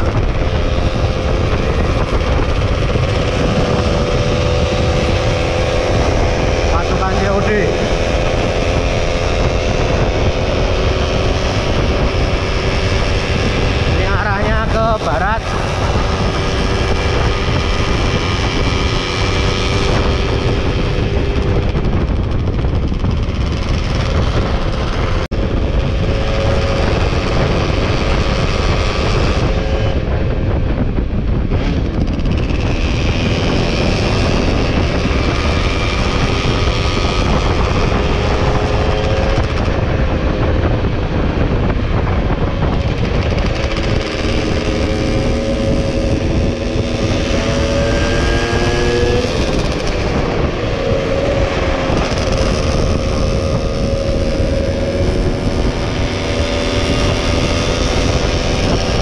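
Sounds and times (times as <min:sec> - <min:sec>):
two-stroke motorcycle engine running: 0:00.0 - 0:59.0
wind rumble on microphone: 0:00.0 - 0:59.0.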